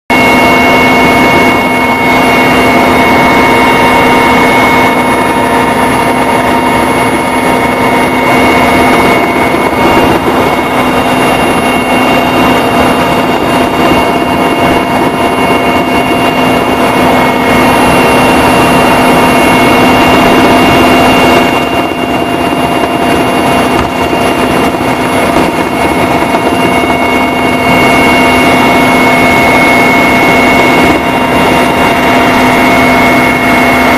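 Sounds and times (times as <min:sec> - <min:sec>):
helicopter drone: 0:00.1 - 0:33.9.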